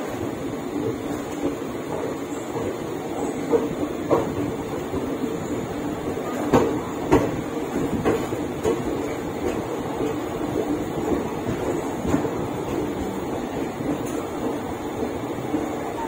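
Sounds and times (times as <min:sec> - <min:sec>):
train coach rumble: 0:00.0 - 0:16.0.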